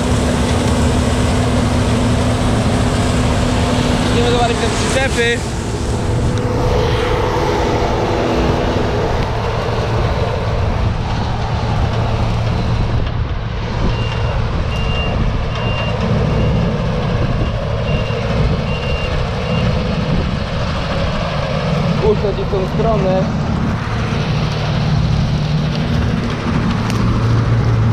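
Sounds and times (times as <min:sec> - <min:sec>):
combine harvester engine hum: 0:00.0 - 0:27.9.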